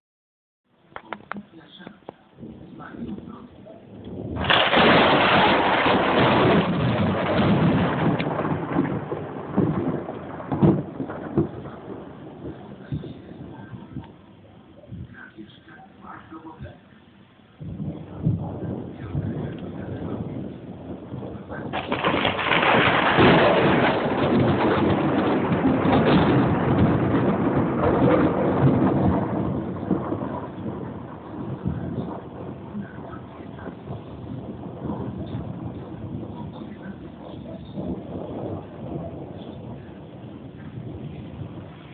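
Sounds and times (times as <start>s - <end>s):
thunder crack and rumbling: 1.0s - 16.9s, 17.5s - 41.9s.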